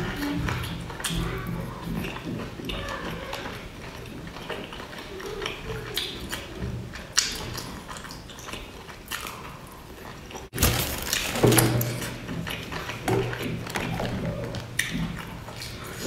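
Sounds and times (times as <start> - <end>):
person chewing with lip smacks: 0.0 - 10.5, 11.1 - 16.0.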